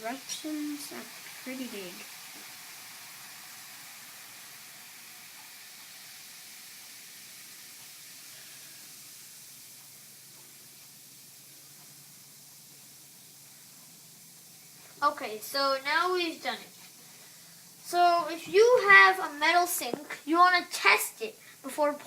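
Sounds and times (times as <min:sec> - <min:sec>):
baking soda and vinegar fizzing: 0:00.0 - 0:22.0.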